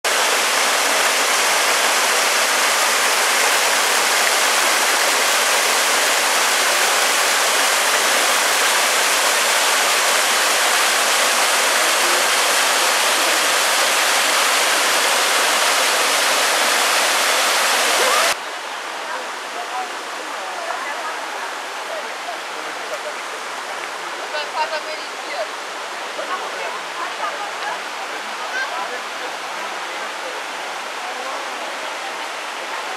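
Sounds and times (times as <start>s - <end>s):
waterfall rushing water: 0.0s - 32.9s.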